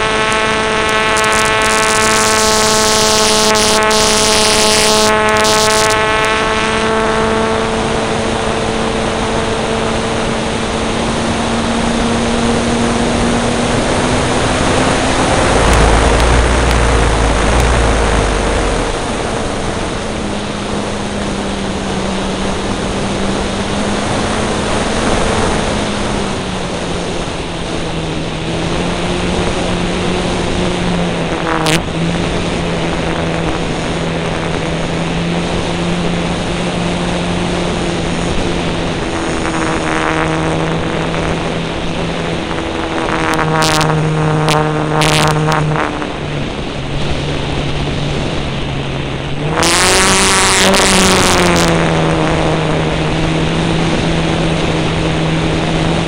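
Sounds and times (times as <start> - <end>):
low buffeting: 0.0 - 56.0
model aircraft motor drone: 0.0 - 56.0
wind rush on microphone: 0.0 - 56.0.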